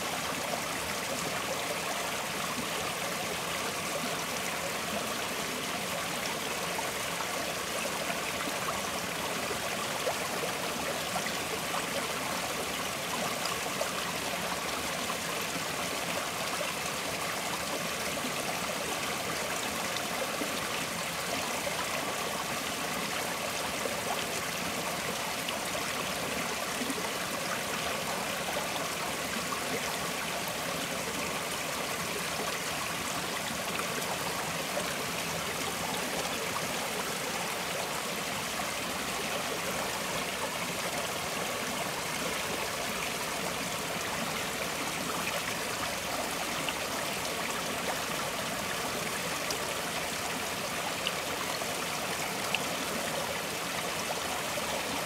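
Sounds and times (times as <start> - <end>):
stream trickling: 0.0 - 55.0.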